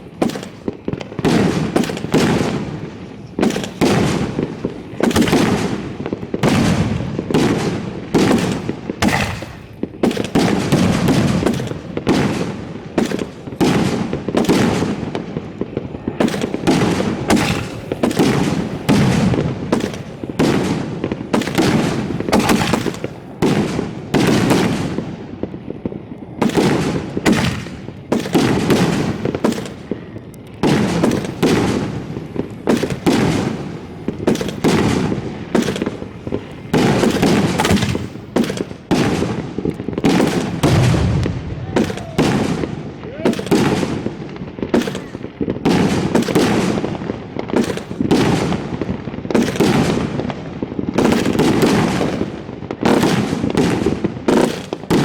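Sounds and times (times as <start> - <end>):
fireworks bangs: 0.0 - 55.0
fireworks crackle: 0.0 - 55.0.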